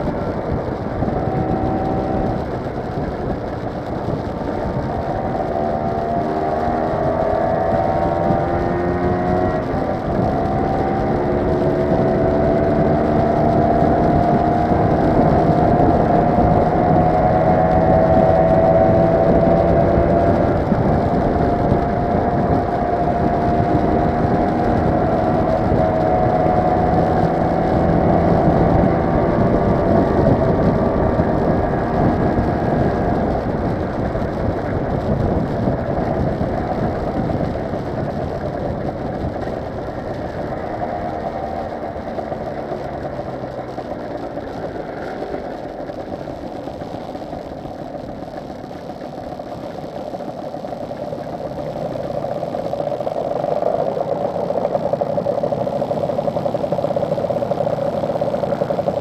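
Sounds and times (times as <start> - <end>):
motor scooter engine running: 0.0 - 59.0
wind and road noise: 0.0 - 59.0.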